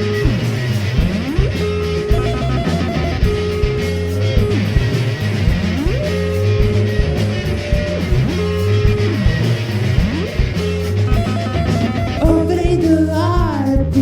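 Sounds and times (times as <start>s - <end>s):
electric guitar sliding notes: 0.0s - 13.9s
bass line: 0.0s - 14.0s
drums: 0.0s - 14.0s.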